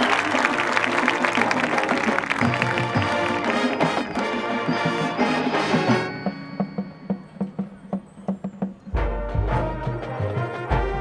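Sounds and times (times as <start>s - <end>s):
marching band hit: 0.0s - 11.0s
percussion tapping: 1.7s - 10.9s.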